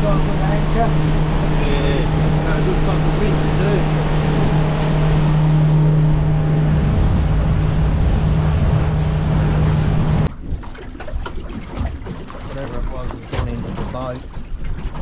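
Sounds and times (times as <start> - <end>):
motorboat engine running: 0.0 - 15.0
wind and water rushing: 0.0 - 15.0.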